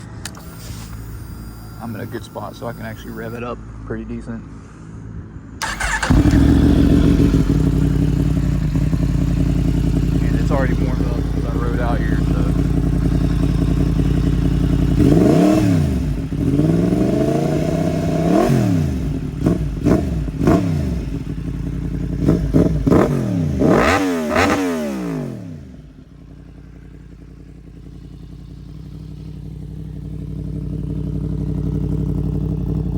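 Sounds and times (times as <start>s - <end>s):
motorcycle engine idling: 0.0s - 3.4s, 5.6s - 32.9s
motorcycle engine revving: 0.0s - 3.4s, 5.6s - 32.9s.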